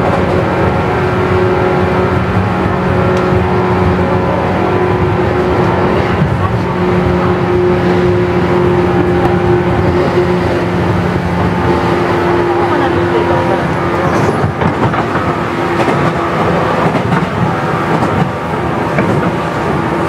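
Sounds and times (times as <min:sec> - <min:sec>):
traction motor hum: 0:00.0 - 0:20.0
wheel-on-rail rumble: 0:00.0 - 0:20.0.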